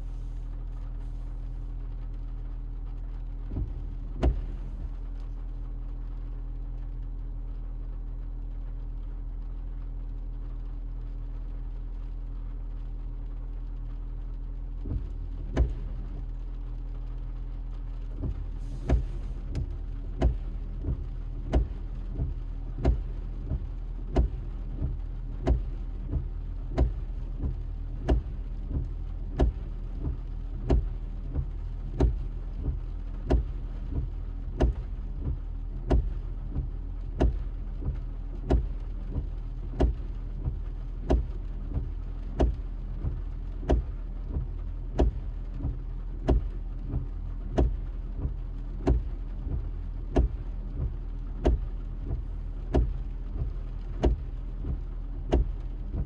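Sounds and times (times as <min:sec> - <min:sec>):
steady low car hum: 0:00.0 - 0:56.0
windshield wipers knocking: 0:00.4 - 0:06.1, 0:14.4 - 0:56.0.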